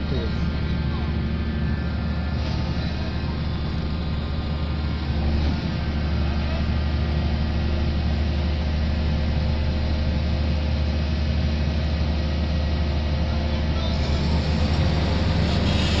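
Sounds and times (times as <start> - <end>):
heavy engine low drone: 0.0 - 16.0.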